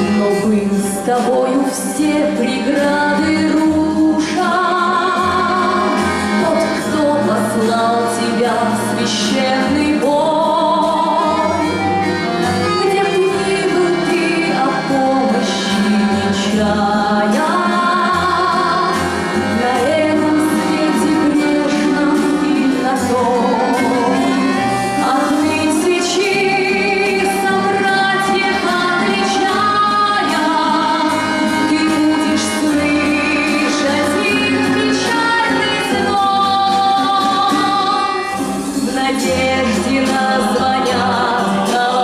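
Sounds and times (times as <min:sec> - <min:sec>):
woman singing opera: 0:00.0 - 0:11.9, 0:12.6 - 0:42.0
instrumental accompaniment: 0:00.0 - 0:42.0.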